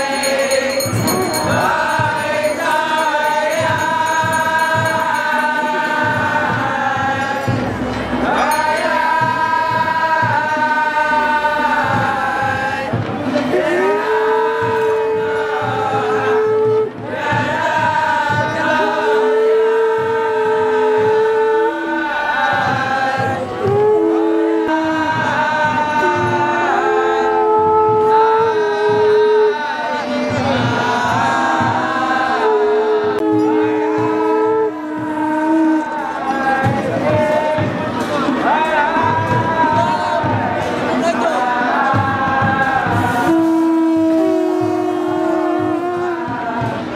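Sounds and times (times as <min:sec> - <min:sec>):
drum beats: 0:00.0 - 0:46.9
group devotional chanting: 0:00.0 - 0:46.9.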